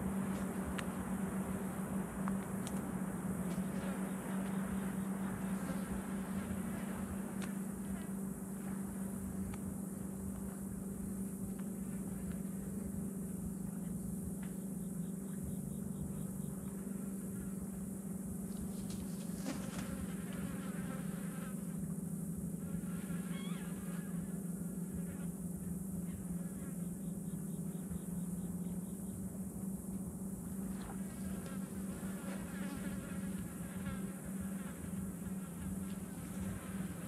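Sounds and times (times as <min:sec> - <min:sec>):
flies buzzing: 0:00.0 - 0:37.0.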